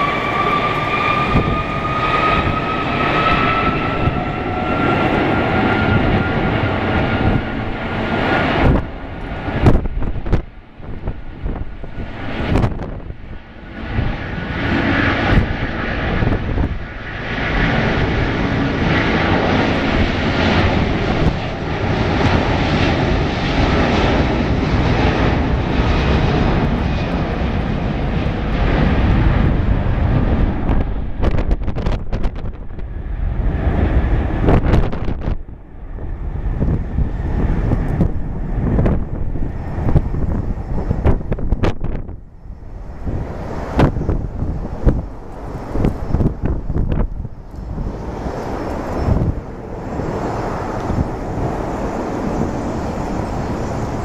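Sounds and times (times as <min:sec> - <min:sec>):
jet engines at takeoff thrust: 0:00.0 - 0:54.0.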